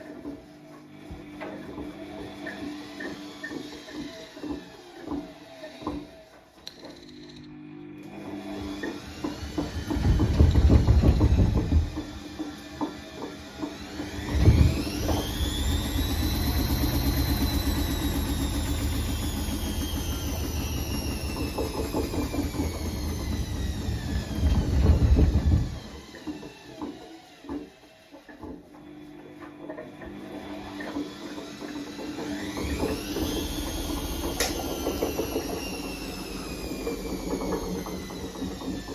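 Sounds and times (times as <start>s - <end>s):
washing machine motor whine: 0.0s - 38.9s.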